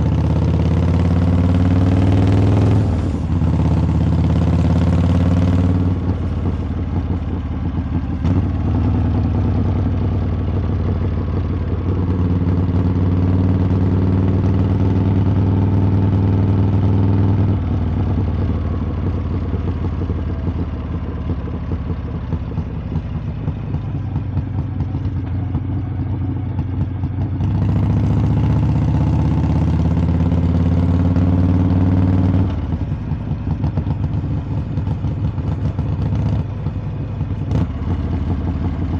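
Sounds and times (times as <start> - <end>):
motorcycle exhaust: 0.0 - 38.9.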